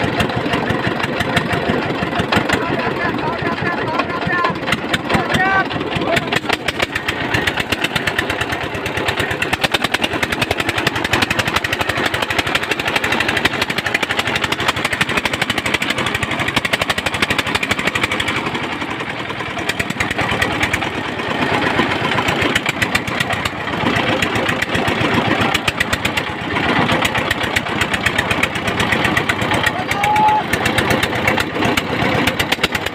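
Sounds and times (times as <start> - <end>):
motor boat engine chugging: 0.0 - 32.9.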